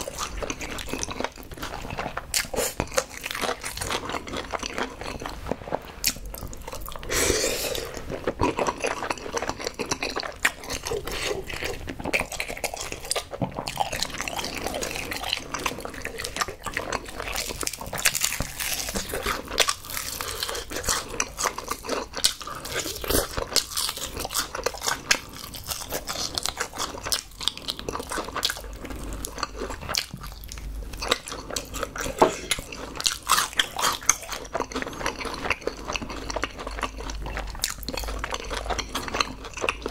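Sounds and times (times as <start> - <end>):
crunching fried chicken: 0.0 - 39.9
wet chewing: 0.0 - 39.9.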